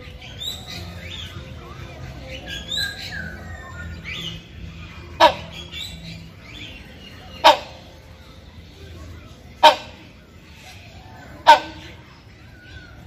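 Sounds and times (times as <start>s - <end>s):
hornbills calling: 0.0s - 8.4s, 9.5s - 12.3s.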